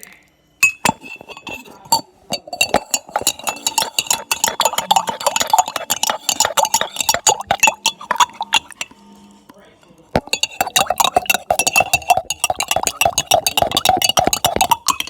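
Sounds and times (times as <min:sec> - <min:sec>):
metal spoon clinking in cup: 0:00.6 - 0:09.0, 0:10.2 - 0:15.0.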